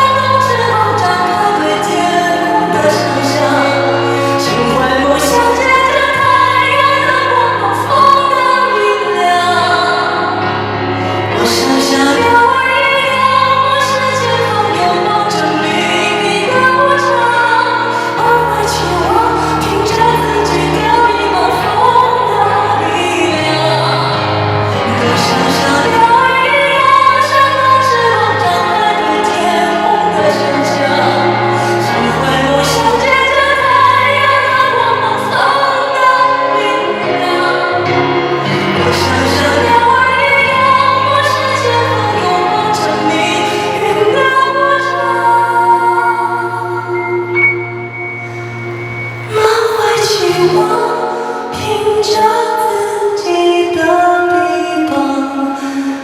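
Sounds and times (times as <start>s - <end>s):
choir-like backing vocals: 0.0s - 54.2s
band playing pop ballad: 0.0s - 55.4s
high singing voice: 11.0s - 56.0s.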